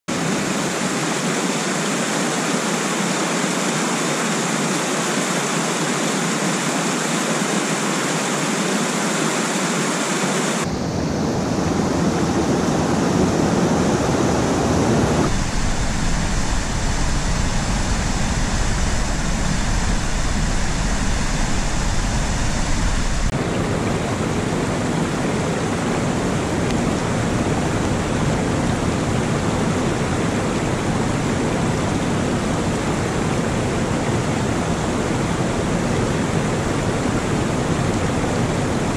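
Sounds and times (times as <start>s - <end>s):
stream rushing over rocks: 0.1s - 38.9s.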